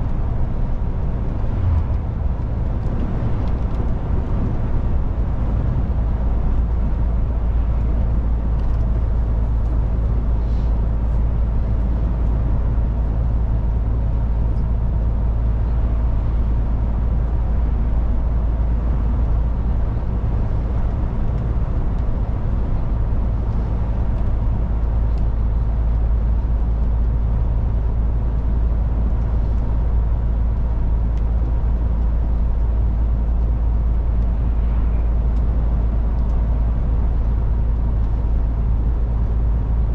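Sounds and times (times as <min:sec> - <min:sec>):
diesel truck engine humming: 0:00.0 - 0:39.9
tyre and road noise: 0:00.0 - 0:39.9.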